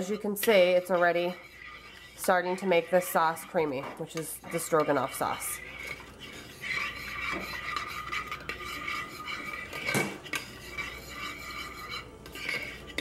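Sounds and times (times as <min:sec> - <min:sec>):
utensil scraping and clinking pot: 0:00.0 - 0:13.0.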